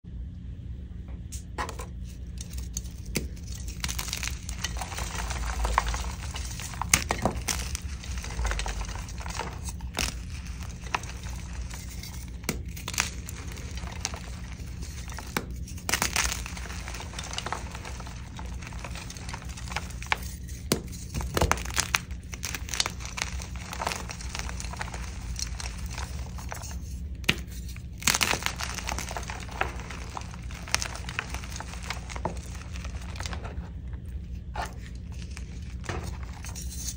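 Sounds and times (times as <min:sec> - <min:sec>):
chalk pieces cracking: 0:01.3 - 0:36.9
chalk crunching and crumbling: 0:01.4 - 0:36.9.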